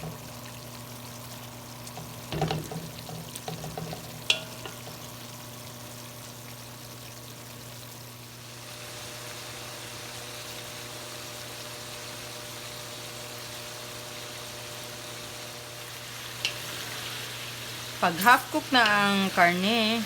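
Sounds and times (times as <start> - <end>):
pork sizzling in a pan: 0.0 - 20.0.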